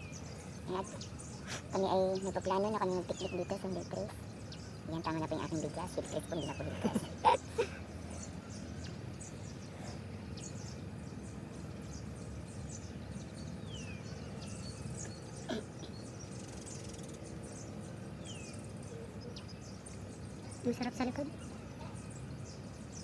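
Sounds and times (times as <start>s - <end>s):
low outdoor rumble: 0.0s - 23.0s
small birds chirping: 0.0s - 23.0s.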